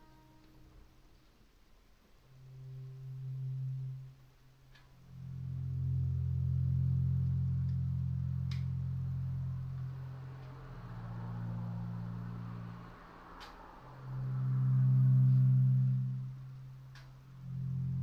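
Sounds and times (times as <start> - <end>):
electric guitar low notes: 2.3 - 18.0.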